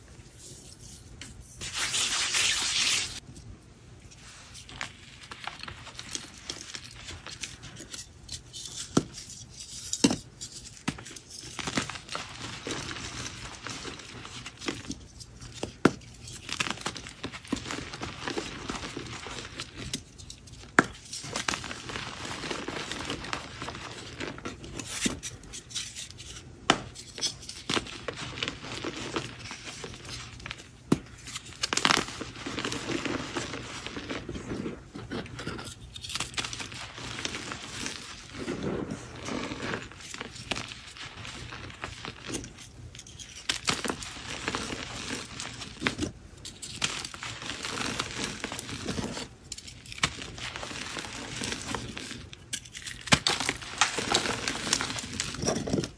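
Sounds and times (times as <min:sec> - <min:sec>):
chalk crunching and crumbling: 0:00.2 - 0:03.2, 0:04.0 - 0:55.9.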